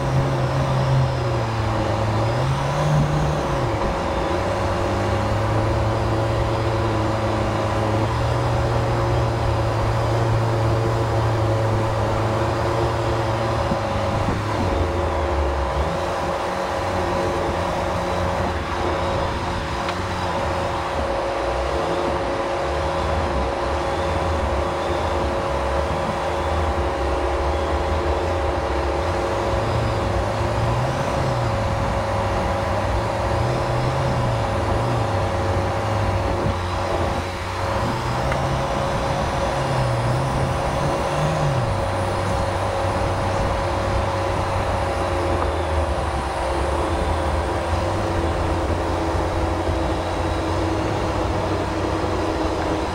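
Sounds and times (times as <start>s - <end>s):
car engine running: 0.0s - 52.9s
steady whine: 0.0s - 52.9s.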